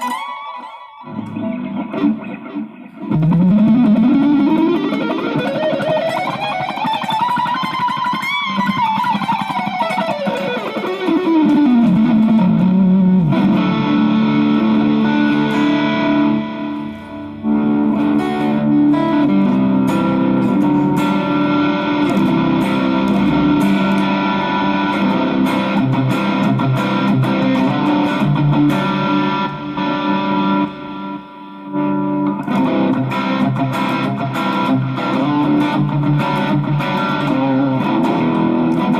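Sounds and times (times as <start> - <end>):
electric guitar with effects: 0.0 - 38.9.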